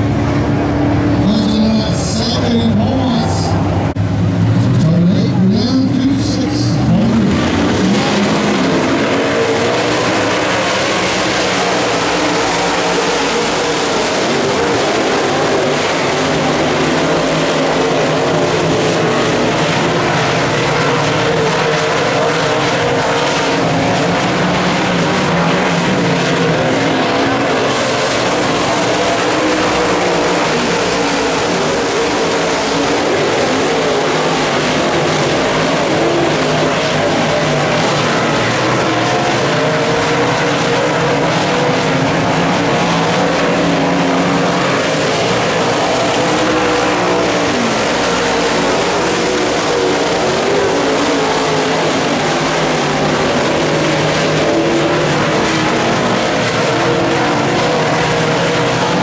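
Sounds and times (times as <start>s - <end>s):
race car engines droning: 0.0s - 59.0s.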